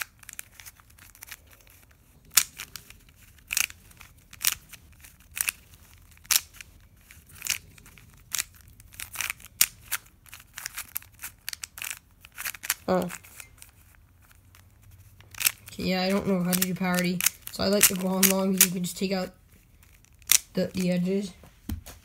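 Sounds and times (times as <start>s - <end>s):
plastic puzzle clicking: 0.0s - 21.1s.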